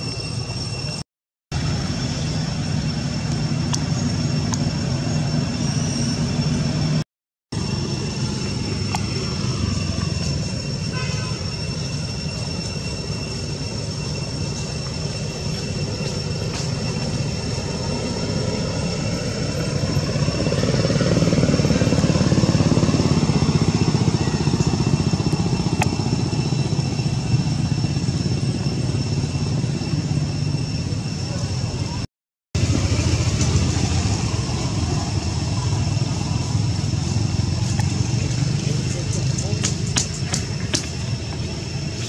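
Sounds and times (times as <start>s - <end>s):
high-pitched whine: 0.0s - 42.0s.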